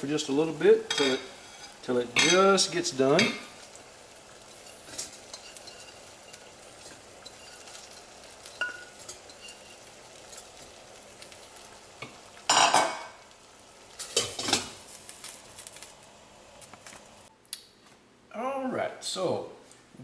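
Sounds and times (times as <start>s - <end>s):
faint hiss: 0.0s - 17.3s.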